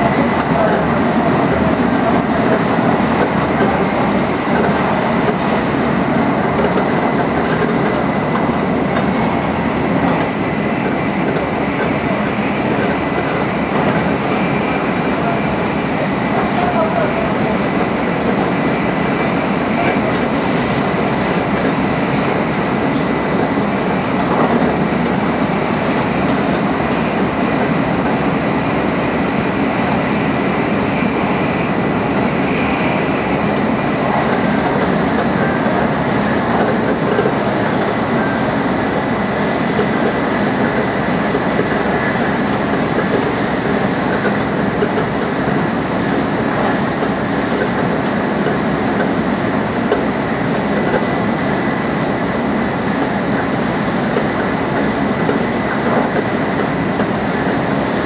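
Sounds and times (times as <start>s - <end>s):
high-speed train rushing: 0.0s - 58.0s.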